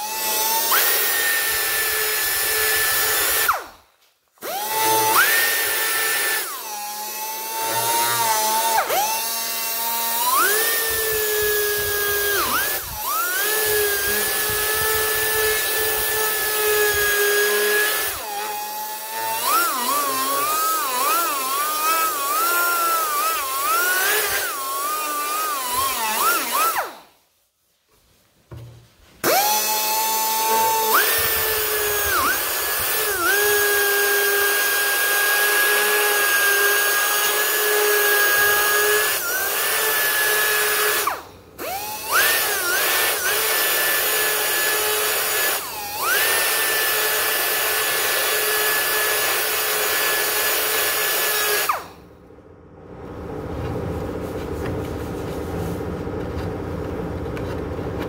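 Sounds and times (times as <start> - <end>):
power grinder whining: 0.0 - 3.8, 4.4 - 27.1, 29.2 - 52.2.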